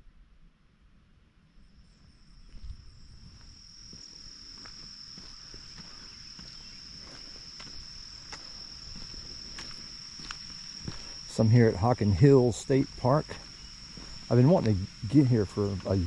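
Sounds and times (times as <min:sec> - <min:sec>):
insects trilling: 0:01.5 - 0:16.0.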